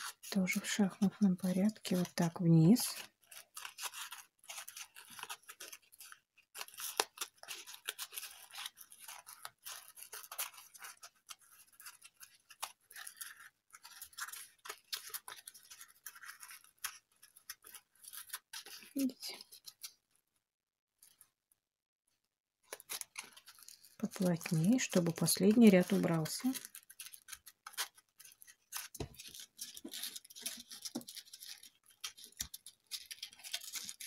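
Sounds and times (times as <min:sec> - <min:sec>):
craft foam strips scraping: 0:00.0 - 0:00.8, 0:01.5 - 0:20.1, 0:22.7 - 0:34.0.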